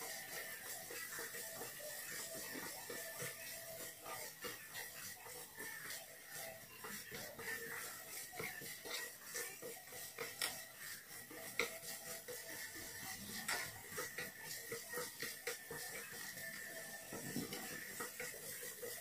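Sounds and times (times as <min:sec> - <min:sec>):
utensil scraping frying pan: 0:00.0 - 0:19.0.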